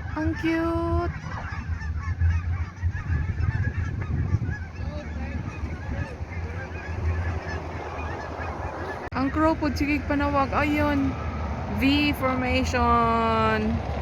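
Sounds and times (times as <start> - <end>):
geese honking: 0.0 - 14.0
wind rumble on microphone: 0.0 - 14.0.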